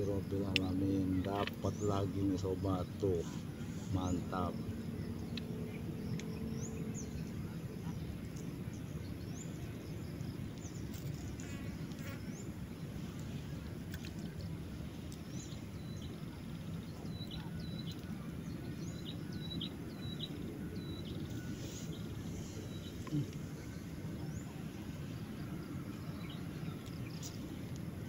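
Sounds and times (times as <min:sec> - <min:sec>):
birds chirping: 0:00.0 - 0:28.0
low outdoor rumble: 0:00.0 - 0:28.0.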